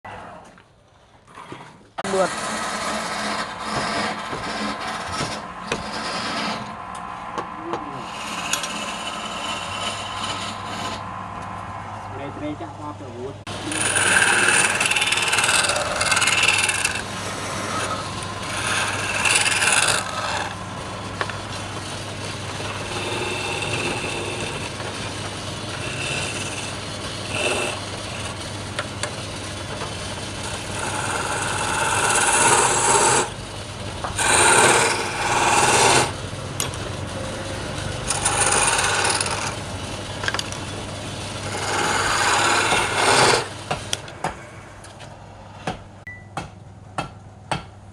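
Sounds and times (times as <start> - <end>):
tool scraping spinning wood: 1.3 - 11.6, 13.5 - 45.1
wood lathe humming: 2.0 - 11.5, 13.5 - 45.0.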